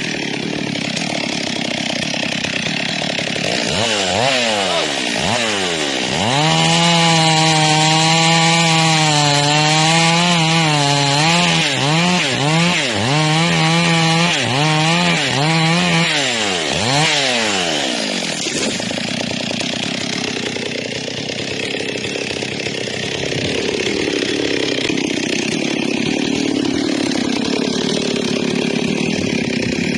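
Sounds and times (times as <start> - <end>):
chainsaw cutting wood: 0.0 - 29.9.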